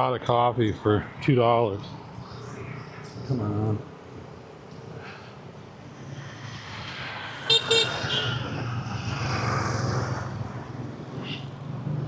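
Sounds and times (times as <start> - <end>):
street traffic passing: 0.0 - 12.0.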